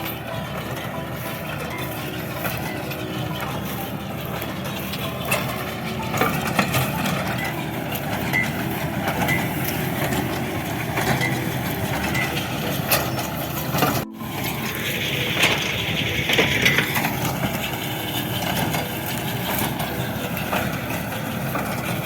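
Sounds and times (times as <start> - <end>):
mechanical knocks and clanks: 0.0 - 22.0
tractor engine running: 0.0 - 22.0.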